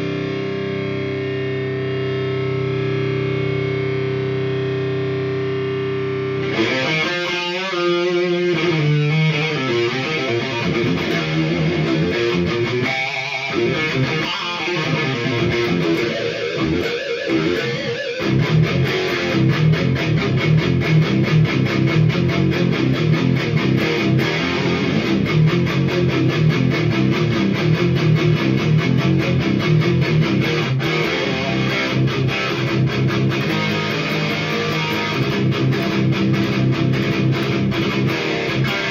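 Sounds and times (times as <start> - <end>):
overdriven electric guitar: 0.0 - 38.9.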